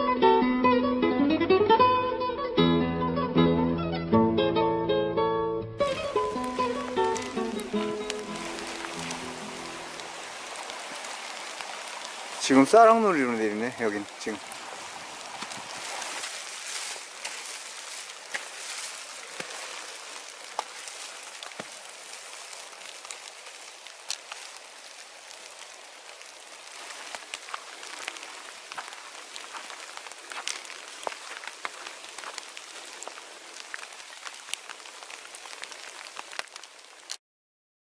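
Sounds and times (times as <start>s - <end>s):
steady hiss: 5.8s - 37.1s
snow pellets ticking: 5.8s - 37.2s.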